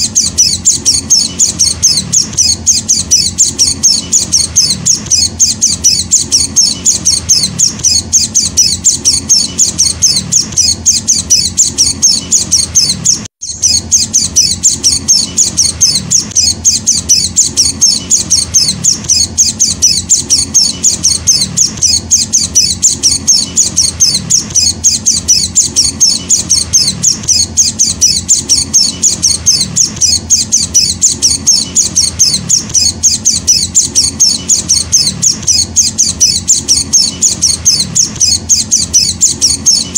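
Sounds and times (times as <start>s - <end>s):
bird chick chirping: 0.0s - 39.9s.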